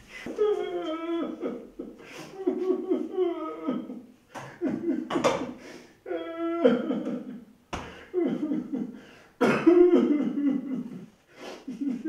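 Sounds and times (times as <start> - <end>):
man sobbing: 0.3 - 7.5, 8.1 - 12.0.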